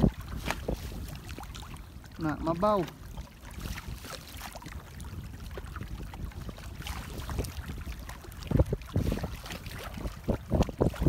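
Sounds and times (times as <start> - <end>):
water splashing and sloshing: 0.0 - 11.0
wind rumbling on microphone: 0.0 - 11.0.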